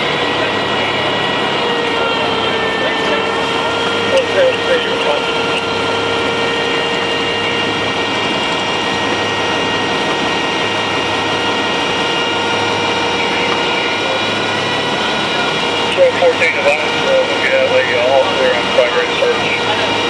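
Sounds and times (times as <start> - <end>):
engine droning with whine: 0.0 - 20.0.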